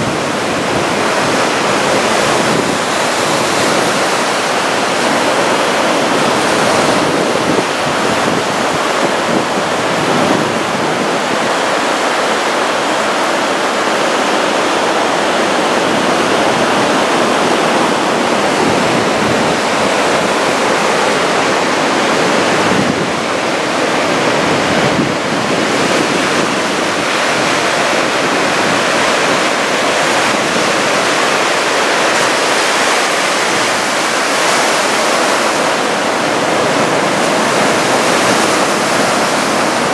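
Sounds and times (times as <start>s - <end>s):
heavy surf breaking on shore: 0.0s - 39.9s.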